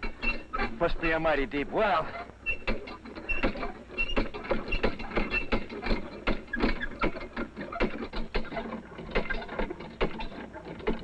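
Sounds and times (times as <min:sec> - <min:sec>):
pump squeaking: 0:00.0 - 0:01.2, 0:02.0 - 0:11.0.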